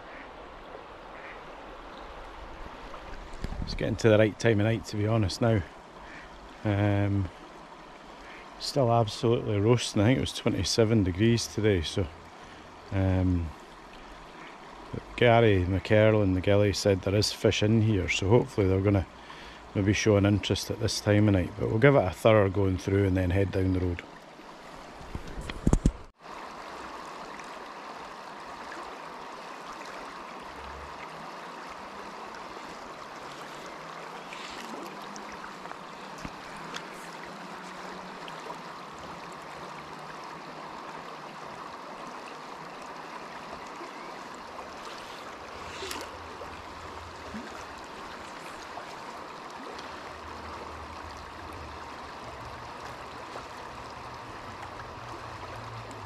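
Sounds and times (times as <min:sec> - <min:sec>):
river current flowing: 0:00.0 - 0:56.0.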